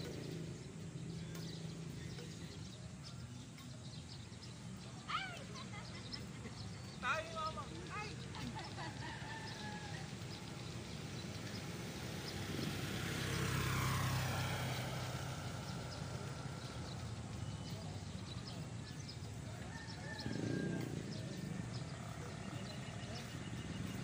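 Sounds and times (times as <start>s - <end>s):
engine passing by: 0.0s - 24.0s.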